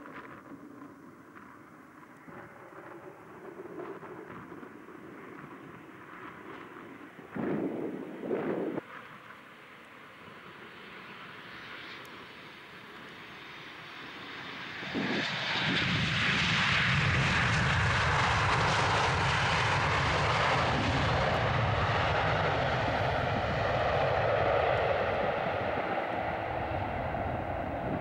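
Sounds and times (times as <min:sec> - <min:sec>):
jet engines of airliner: 0:00.0 - 0:28.0.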